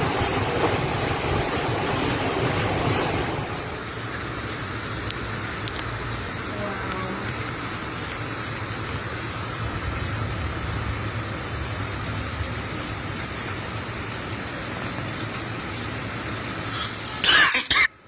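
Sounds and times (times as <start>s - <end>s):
vehicle engine rumble: 0.0s - 17.3s
heavy rain: 0.0s - 18.0s.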